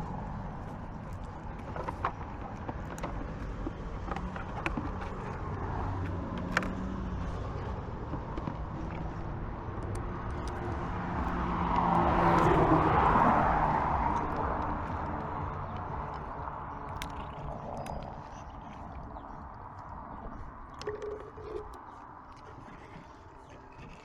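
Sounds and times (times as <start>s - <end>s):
low traffic hum: 0.0s - 24.0s
road vehicle passing: 0.0s - 24.0s.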